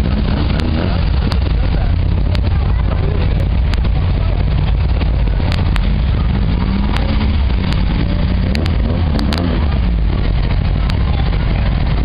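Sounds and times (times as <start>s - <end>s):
car engine rumble passing slowly: 0.0s - 12.0s.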